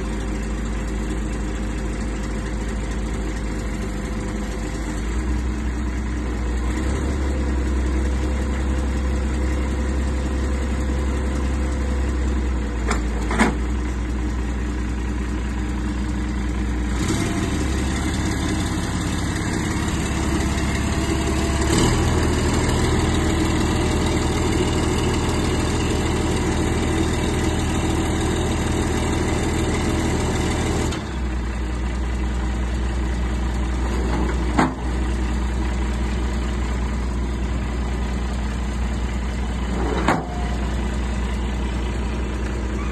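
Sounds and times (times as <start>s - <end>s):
crane truck engine idling: 0.0s - 42.9s.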